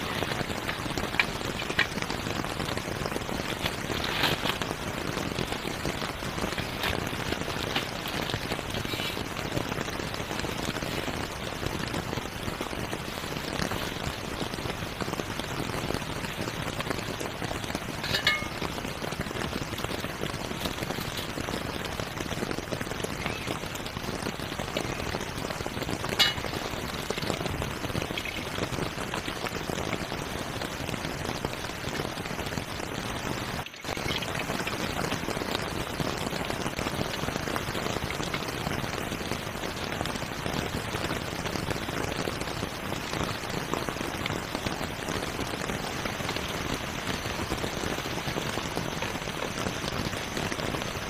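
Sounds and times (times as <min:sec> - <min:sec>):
rain on a tent: 0:00.0 - 0:51.0.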